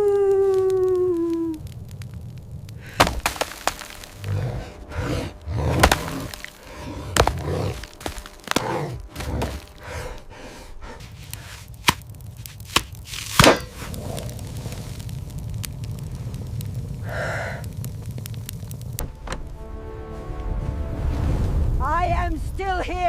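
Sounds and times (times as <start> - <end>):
steady low rumble: 0.1 - 23.0.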